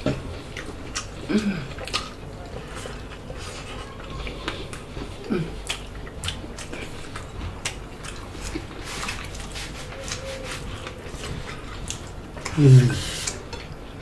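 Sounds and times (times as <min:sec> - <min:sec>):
wet chewing mouth sounds: 0:00.0 - 0:14.0.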